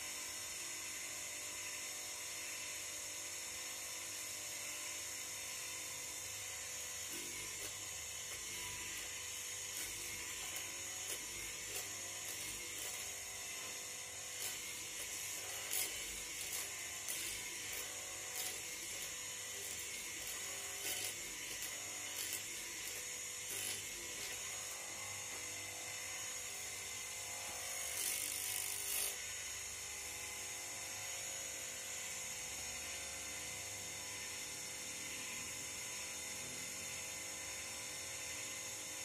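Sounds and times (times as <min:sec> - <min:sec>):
mortiser running with high whine: 0:00.0 - 0:39.0.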